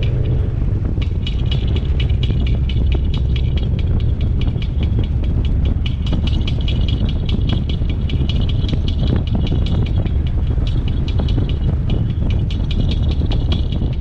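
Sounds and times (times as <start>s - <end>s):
heavy low rumble: 0.0s - 14.0s
rapid high-pitched squeaking: 0.0s - 14.0s.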